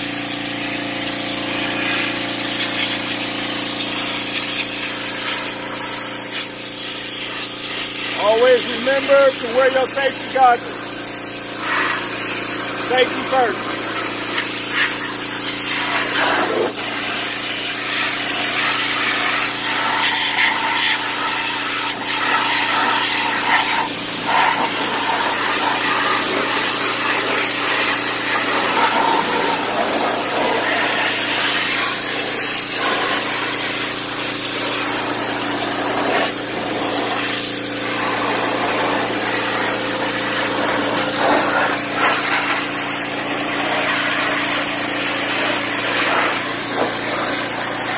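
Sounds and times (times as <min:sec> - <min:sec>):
high-pressure water spray hissing: 0:00.0 - 0:47.9
pressure washer motor humming: 0:00.0 - 0:47.9.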